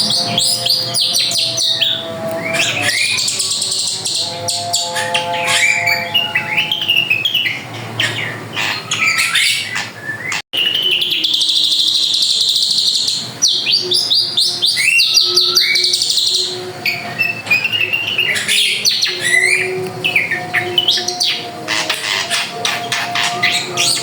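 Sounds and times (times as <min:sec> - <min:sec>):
bird singing whistles and trills: 0:00.0 - 0:24.0.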